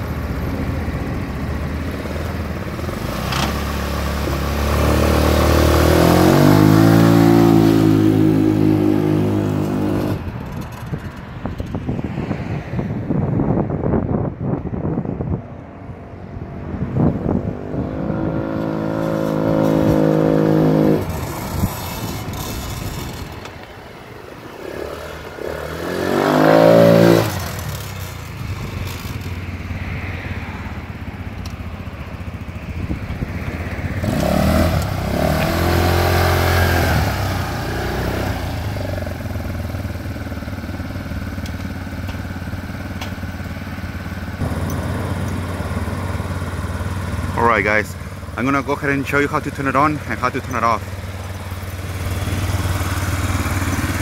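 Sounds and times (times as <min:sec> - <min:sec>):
quad bike engine revving: 0:00.0 - 0:11.0, 0:17.3 - 0:23.7, 0:24.4 - 0:29.8, 0:32.1 - 0:54.0.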